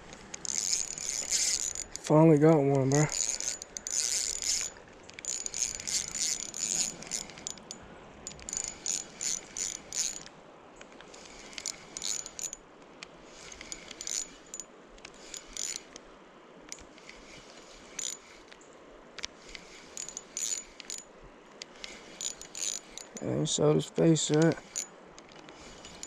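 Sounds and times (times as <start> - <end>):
fishing reel clicking: 0.1 - 10.3, 11.1 - 12.6, 13.3 - 16.0, 16.7 - 18.6, 19.2 - 23.4, 24.2 - 26.0.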